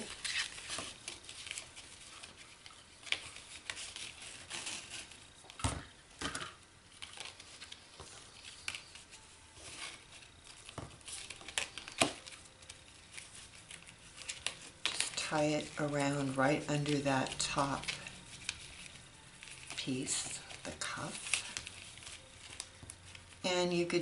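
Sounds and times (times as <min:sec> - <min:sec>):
paper and ribbon rustling: 0:00.0 - 0:05.6, 0:06.8 - 0:24.0.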